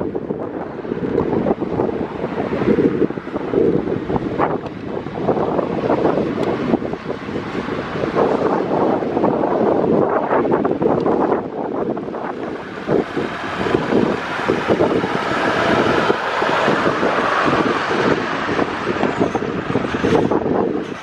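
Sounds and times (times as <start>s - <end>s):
road traffic rushing: 0.0s - 21.0s
wind buffeting microphone: 0.0s - 21.0s.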